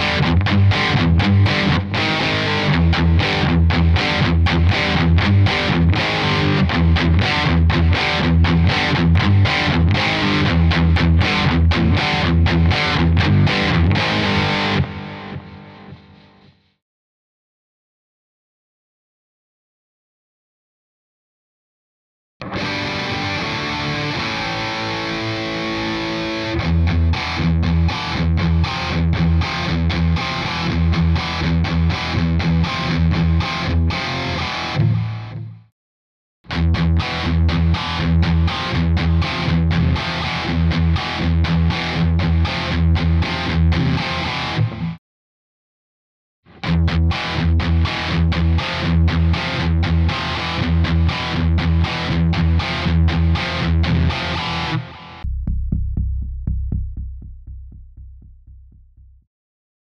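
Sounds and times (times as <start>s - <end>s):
distorted electric guitar riff: 0.0s - 16.7s, 22.4s - 35.7s, 36.5s - 45.0s, 46.5s - 57.4s.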